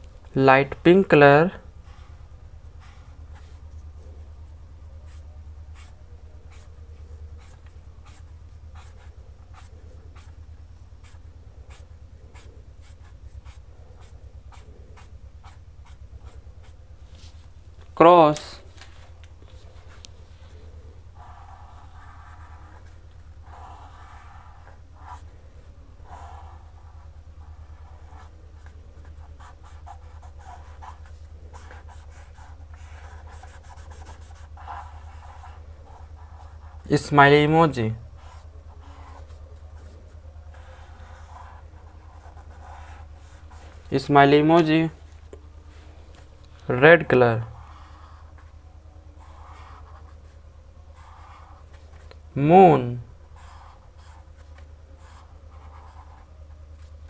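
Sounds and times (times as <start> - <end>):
steady low hum: 0.0 - 57.0
marker scratching on paper: 1.8 - 17.6, 18.4 - 46.0, 47.4 - 52.2, 53.2 - 57.0.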